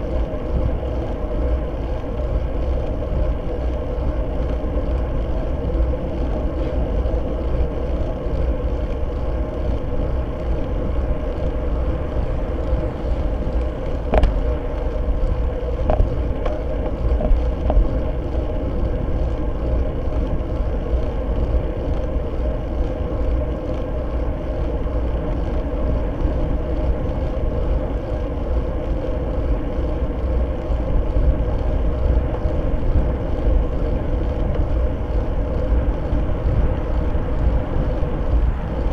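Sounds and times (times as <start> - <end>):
low hum: 0.0 - 38.9
road rumble: 0.0 - 38.9
wind rush: 0.0 - 38.9.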